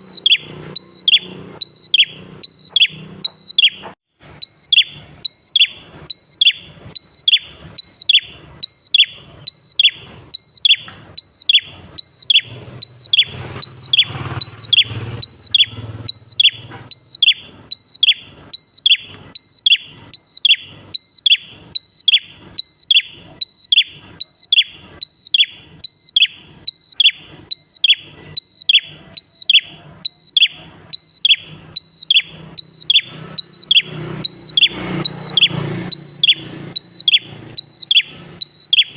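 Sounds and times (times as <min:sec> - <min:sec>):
bird calling: 0:00.0 - 0:38.9.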